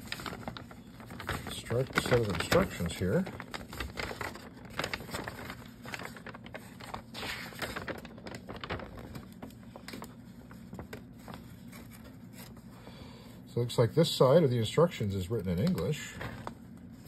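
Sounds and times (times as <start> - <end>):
paper rustling and crackling: 0.0 - 12.8, 15.4 - 17.0.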